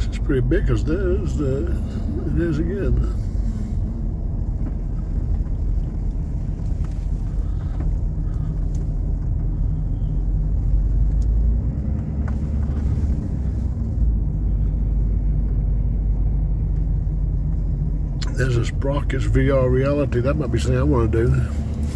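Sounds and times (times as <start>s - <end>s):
car road and engine rumble: 0.0s - 21.9s.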